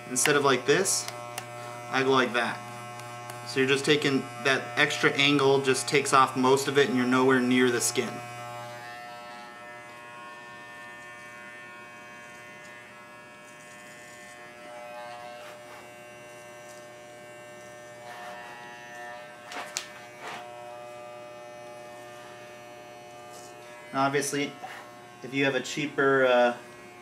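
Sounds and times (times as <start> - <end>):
electric pet clipper buzzing: 0.0 - 27.0.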